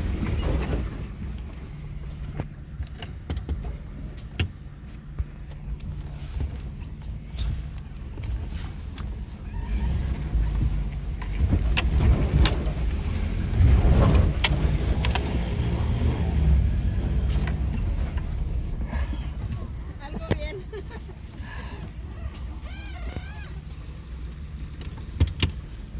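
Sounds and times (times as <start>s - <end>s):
engine and road rumble: 0.0s - 25.9s.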